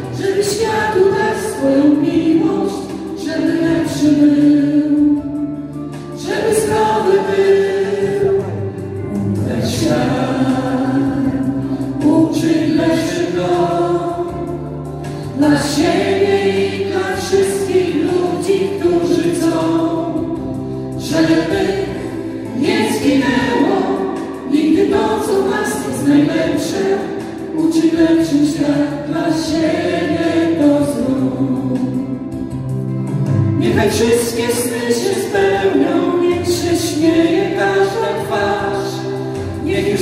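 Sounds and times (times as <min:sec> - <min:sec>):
musical backing: 0:00.0 - 0:40.0
vocal group singing in harmony: 0:00.0 - 0:40.0.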